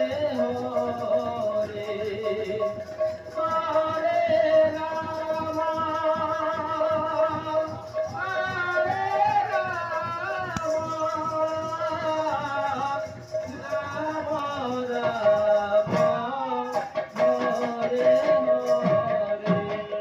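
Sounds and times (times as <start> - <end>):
person singing: 0.0 - 20.0
quick steady drum beat: 0.0 - 20.0.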